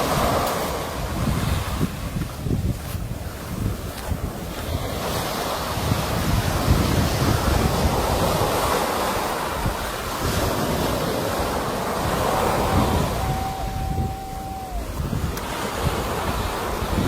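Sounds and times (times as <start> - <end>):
sea waves surf: 0.0 - 17.0
wind on microphone: 0.0 - 17.0.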